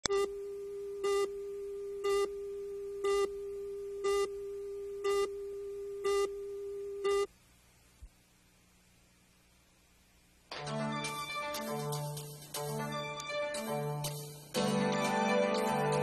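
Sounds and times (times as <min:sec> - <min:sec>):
tape hiss: 0:00.0 - 0:16.0.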